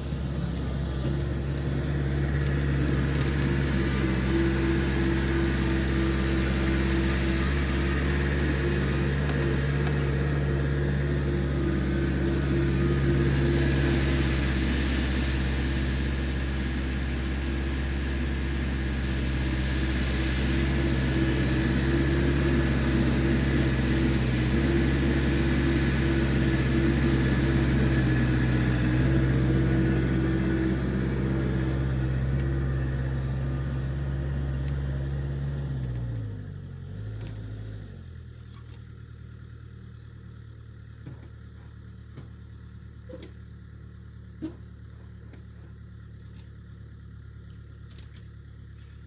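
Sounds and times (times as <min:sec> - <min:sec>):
diesel engine running under load: 0:00.0 - 0:49.0.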